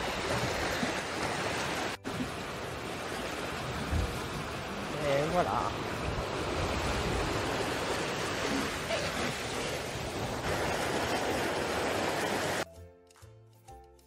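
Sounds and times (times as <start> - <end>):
sea water rushing along hull: 0.0 - 12.6.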